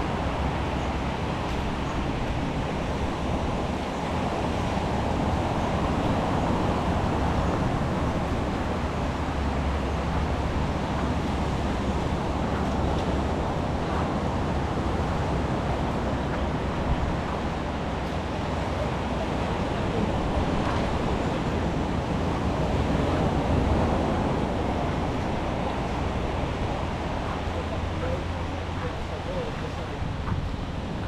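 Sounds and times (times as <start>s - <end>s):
street ambience rushing rumble: 0.0s - 31.0s.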